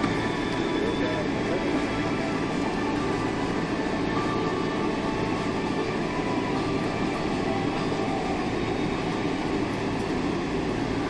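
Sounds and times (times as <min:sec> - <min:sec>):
jet engines running: 0:00.0 - 0:11.0
wheels rumbling: 0:00.0 - 0:11.0.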